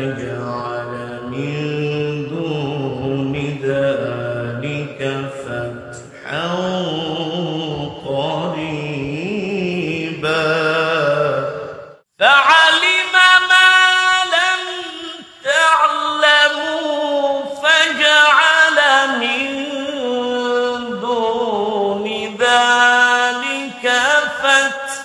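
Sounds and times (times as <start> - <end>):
person chanting recitation: 0.0 - 25.0.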